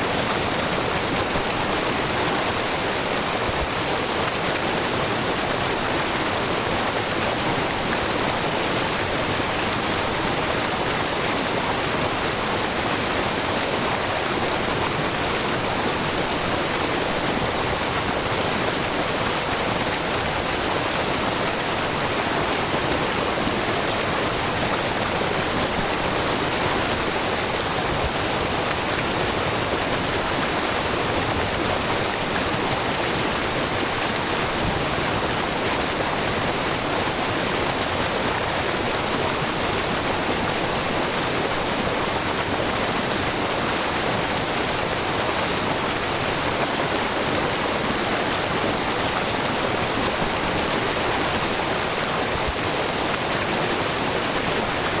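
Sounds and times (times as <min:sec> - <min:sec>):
waterfall rushing into pool: 0:00.0 - 0:55.0.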